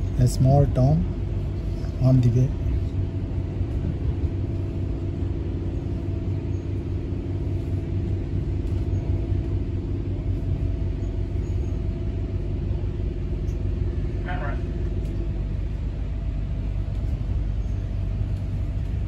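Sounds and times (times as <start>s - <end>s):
faint constant hum: 0.0s - 19.0s
train rumble inside carriage: 0.0s - 19.0s.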